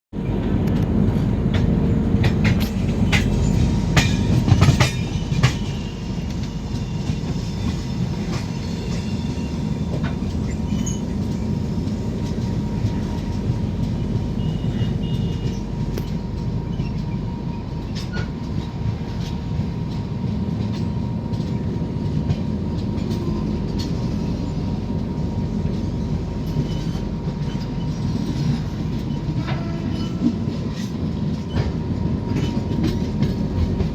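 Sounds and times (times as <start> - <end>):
train wheels rumbling: 0.1 - 33.9.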